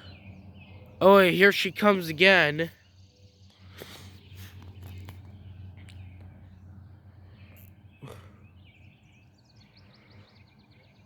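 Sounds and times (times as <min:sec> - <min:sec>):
birds chirping: 0:00.0 - 0:11.0
distant airplane engine drone: 0:00.0 - 0:11.0.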